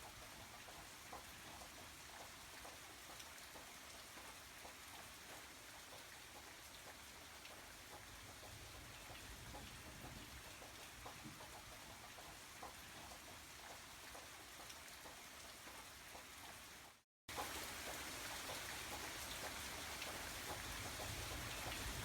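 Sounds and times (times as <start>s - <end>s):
soft rainfall: 0.0s - 22.0s.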